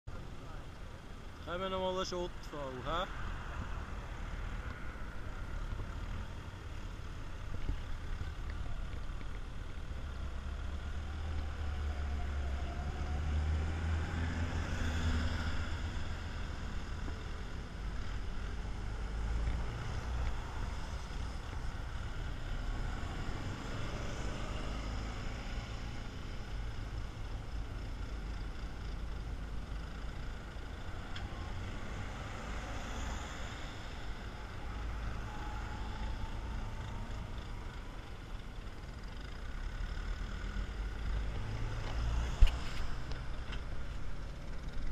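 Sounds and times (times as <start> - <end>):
vehicles driving past: 0.1 - 44.9.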